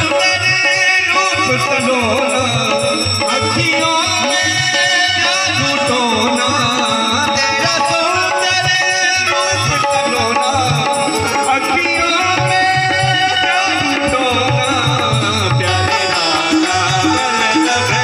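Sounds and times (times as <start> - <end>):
electronic keyboard: 0.0 - 18.0
harmonium: 0.0 - 18.0
man singing into a microphone: 0.0 - 18.0
tabla rhythm: 0.0 - 18.0.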